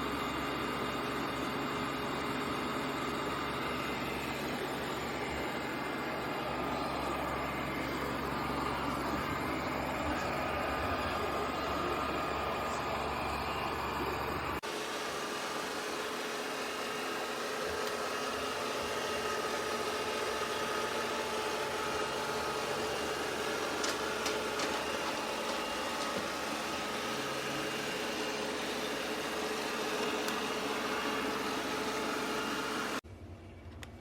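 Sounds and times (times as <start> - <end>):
robot vacuum whirring: 0.1 - 33.0.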